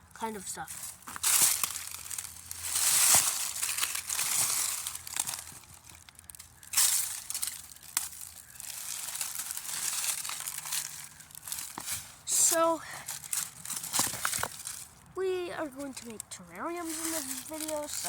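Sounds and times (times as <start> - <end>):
dry leaves crunching underfoot: 0.0 - 18.0.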